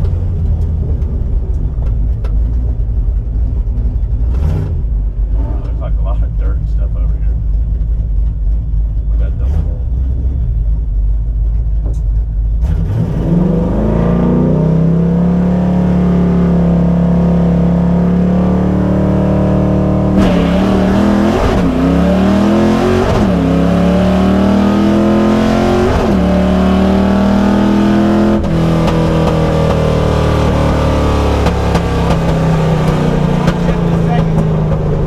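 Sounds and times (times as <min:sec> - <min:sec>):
car engine at full throttle: 0:00.0 - 0:35.0.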